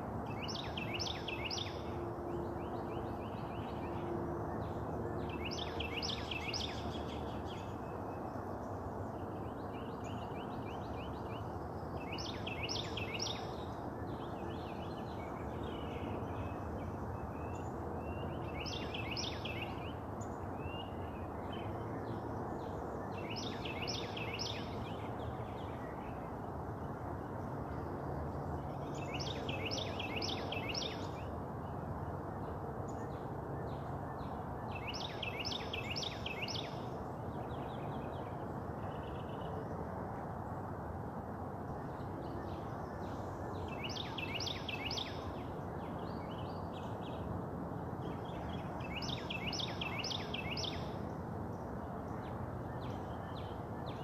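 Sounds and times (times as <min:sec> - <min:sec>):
songbird singing: 0:00.0 - 0:39.8, 0:41.6 - 0:47.3, 0:47.9 - 0:54.0
steady outdoor background hiss: 0:00.0 - 0:54.0.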